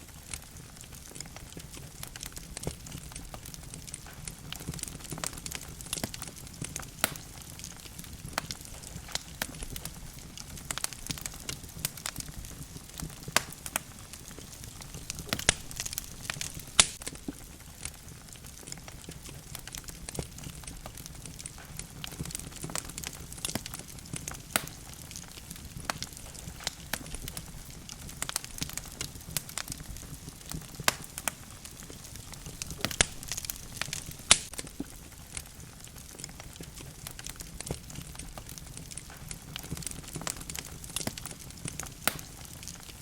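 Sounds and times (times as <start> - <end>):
flames rumbling: 0.0 - 43.0
logs crackling and popping: 0.0 - 43.0.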